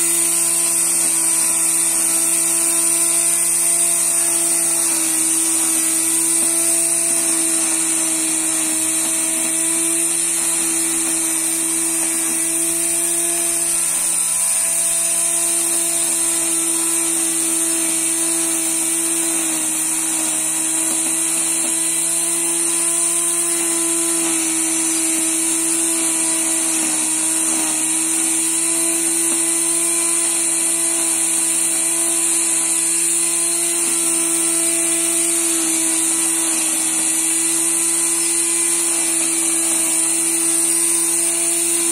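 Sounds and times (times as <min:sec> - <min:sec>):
grinder motor whining: 0:00.0 - 0:41.9.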